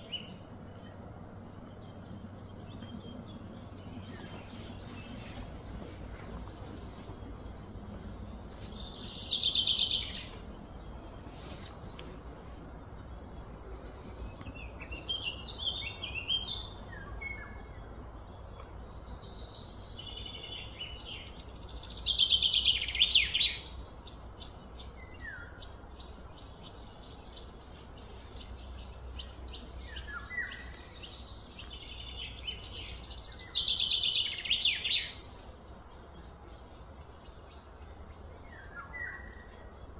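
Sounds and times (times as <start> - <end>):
birds chirping: 0.0 - 39.9
steady background hum: 0.0 - 39.9.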